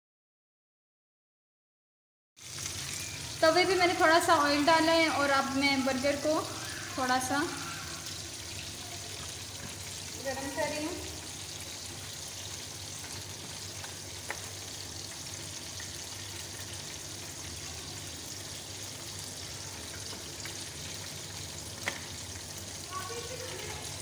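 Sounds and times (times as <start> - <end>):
hot oil sizzling: 2.4 - 24.0.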